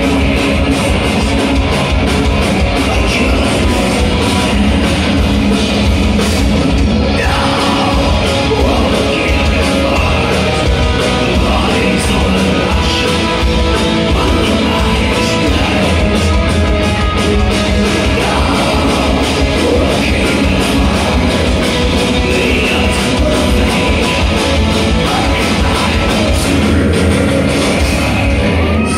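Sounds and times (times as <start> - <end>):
metal band playing: 0.0 - 28.9
vocals sung and shouted: 0.0 - 28.9.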